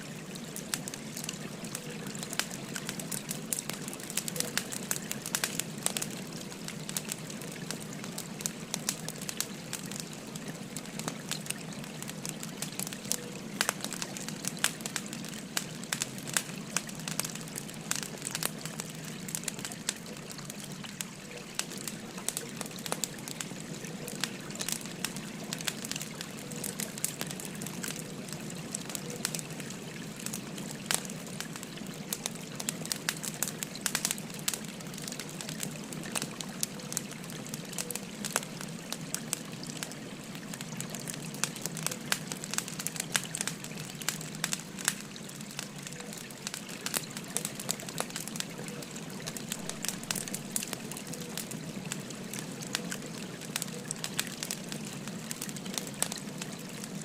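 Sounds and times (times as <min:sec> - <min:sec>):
firewood crackling and popping: 0:00.0 - 0:57.0
stream babbling: 0:00.0 - 0:57.0.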